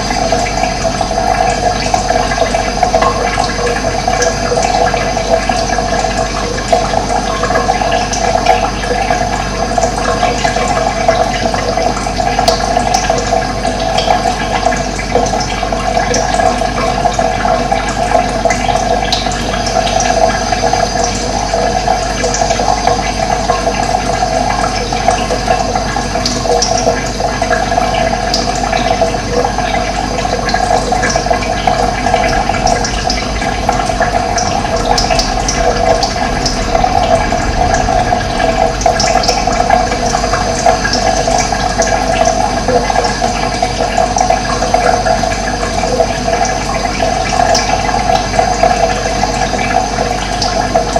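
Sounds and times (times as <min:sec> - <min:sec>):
water rushing: 0:00.0 - 0:16.0, 0:16.6 - 0:50.9.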